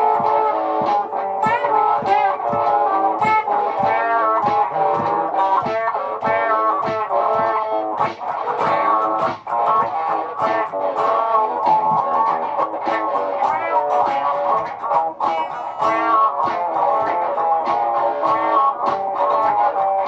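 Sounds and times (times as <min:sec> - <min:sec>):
electric guitar melody with bends: 0:00.0 - 0:20.0
looped guitar backing: 0:00.0 - 0:20.0
steady percussive pulse: 0:00.0 - 0:20.0.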